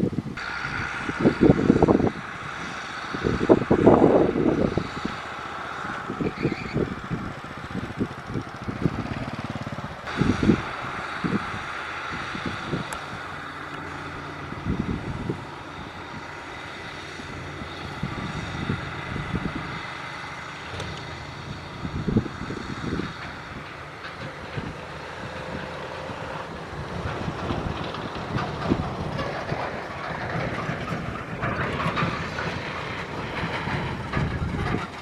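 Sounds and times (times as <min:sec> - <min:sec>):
diesel engine running: 0:00.0 - 0:35.0
gravel knocks and rattles: 0:01.2 - 0:35.0.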